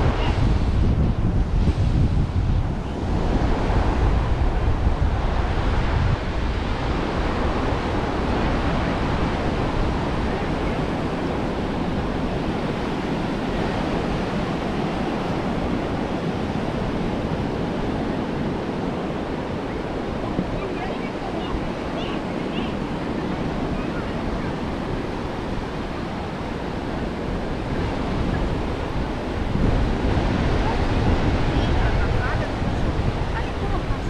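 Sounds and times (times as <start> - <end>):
ocean surf washing onto beach: 0.0 - 34.0
wind buffeting microphone: 0.0 - 34.0.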